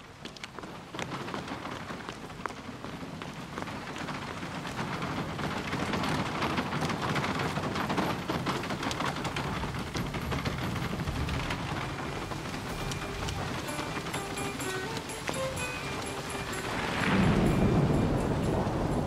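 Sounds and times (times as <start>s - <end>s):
hurried footsteps: 0.0s - 19.0s
wooden carriage wheels rattling: 0.0s - 19.0s.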